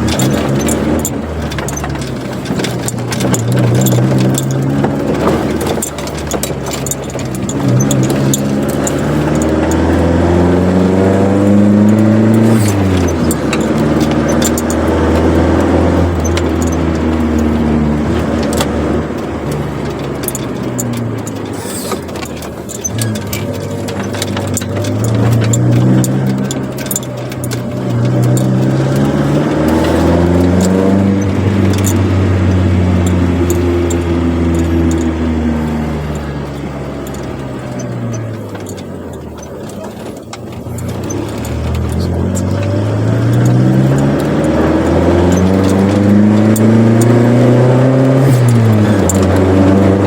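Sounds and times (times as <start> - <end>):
car engine through sports exhaust: 0.0 - 50.0
light jingling clicks: 0.0 - 50.0.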